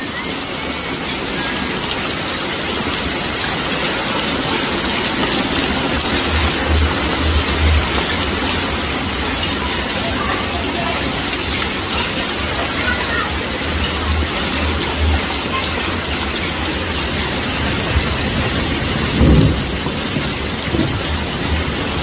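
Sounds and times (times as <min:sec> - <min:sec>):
heavy rain splashing on street: 0:00.0 - 0:22.0.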